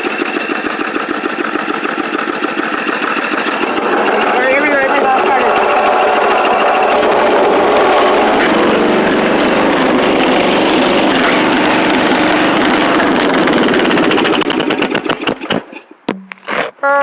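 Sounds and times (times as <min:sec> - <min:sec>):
riding mower engine running: 0:00.0 - 0:15.8.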